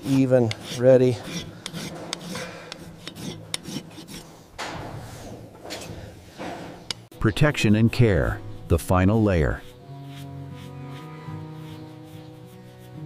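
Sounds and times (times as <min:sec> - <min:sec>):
hoof rasp scraping: 0:00.0 - 0:13.0.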